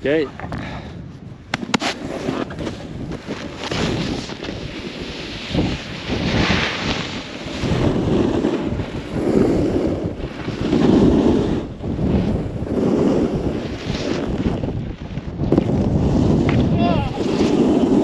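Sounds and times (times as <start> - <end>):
wind on microphone: 0.0 - 18.0
snowboards carving over snow: 1.1 - 18.0.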